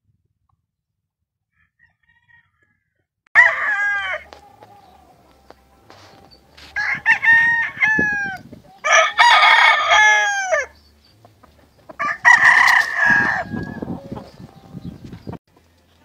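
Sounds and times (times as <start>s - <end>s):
roosters crowing: 1.5s - 15.4s.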